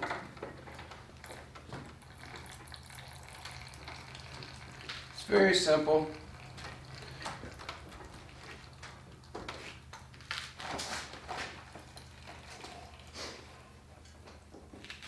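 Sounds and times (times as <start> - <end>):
oil dripping into plastic pan: 0.4 - 13.2.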